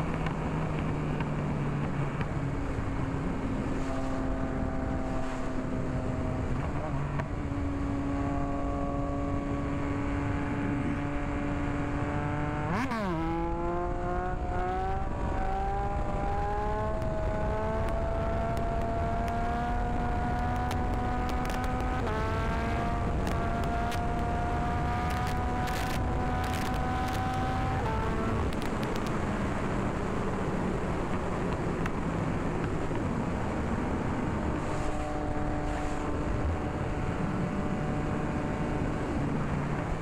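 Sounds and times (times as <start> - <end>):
motorcycle engine accelerating: 0.0 - 40.0
wind rumble: 0.0 - 40.0.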